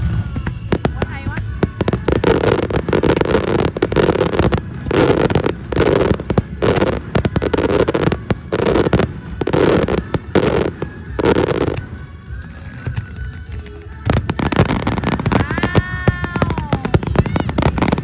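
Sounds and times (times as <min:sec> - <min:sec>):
fireworks blasts: 0:00.0 - 0:18.0
fireworks crackling: 0:00.0 - 0:18.0.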